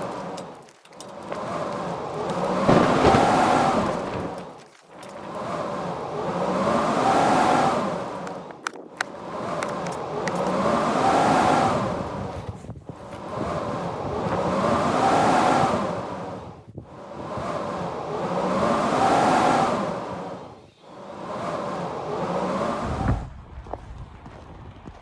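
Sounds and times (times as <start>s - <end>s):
blizzard wind howling: 0.0s - 23.8s.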